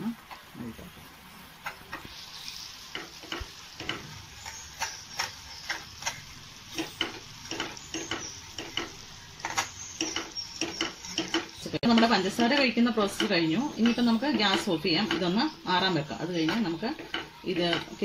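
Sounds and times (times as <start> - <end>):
faint sizzling hiss: 0.0 - 18.0.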